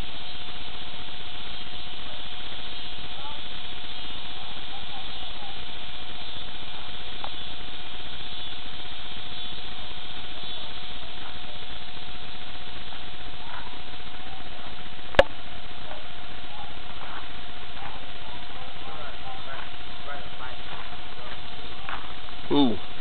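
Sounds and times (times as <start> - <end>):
faint constant whine: 0.0 - 23.0
steady hiss: 0.0 - 23.0.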